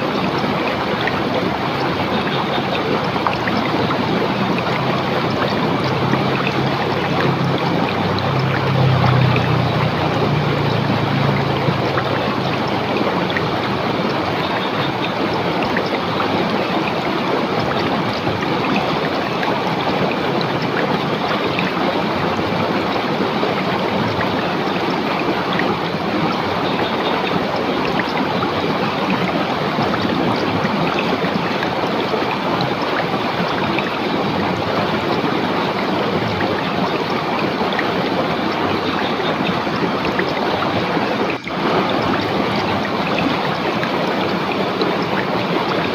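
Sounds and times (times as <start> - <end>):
river rushing over rocks: 0.0 - 45.9.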